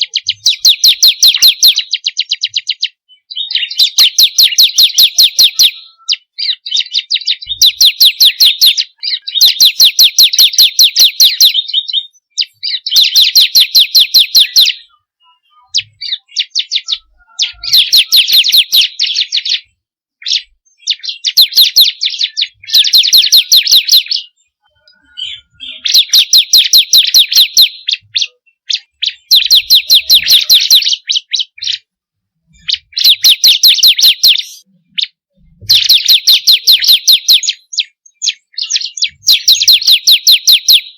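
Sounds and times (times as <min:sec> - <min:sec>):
bird singing high trills: 0:00.0 - 0:31.9, 0:32.5 - 0:40.9.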